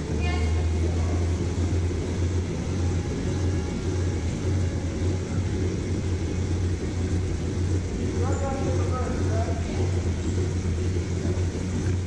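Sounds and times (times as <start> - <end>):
go-kart low hum: 0.0 - 12.0.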